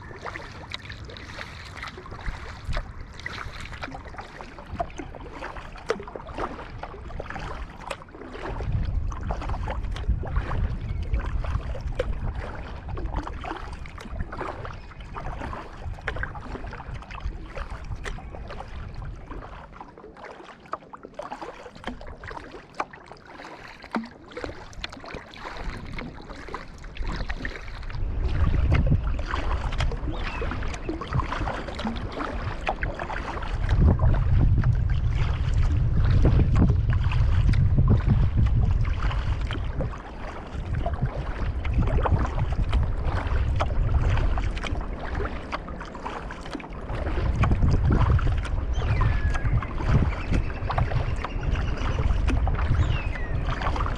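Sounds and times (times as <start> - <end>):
wind buffeting microphone: 0.0 - 19.7, 24.4 - 53.9
paddle strokes splashing water: 0.0 - 53.9.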